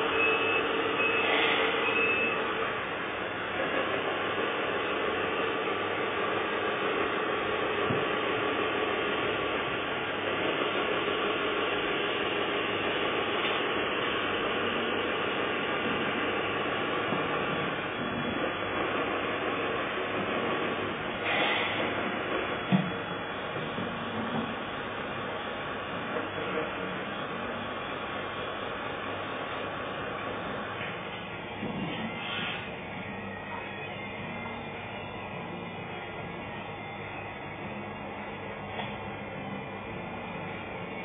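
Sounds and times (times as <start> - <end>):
electric motors whirring: 0.0 - 28.8, 29.6 - 41.0.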